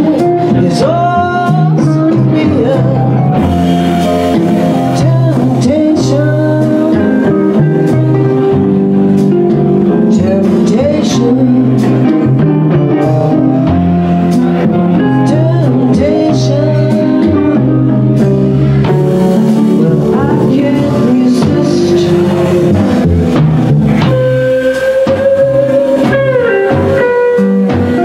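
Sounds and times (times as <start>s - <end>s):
drums: 0.0s - 28.0s
electric guitar: 0.0s - 28.0s
upright bass: 0.0s - 28.0s.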